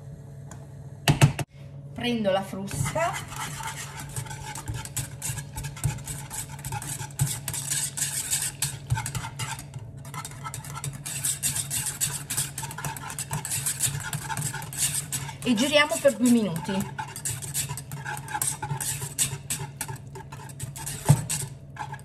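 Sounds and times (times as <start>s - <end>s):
whisk beating batter in pot: 2.7s - 22.0s.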